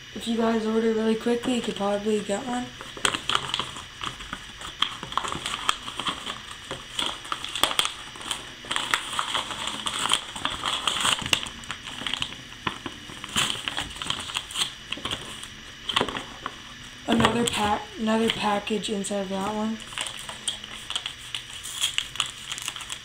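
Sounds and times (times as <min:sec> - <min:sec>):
paper envelope crinkling: 0:01.3 - 0:16.5, 0:19.8 - 0:23.0.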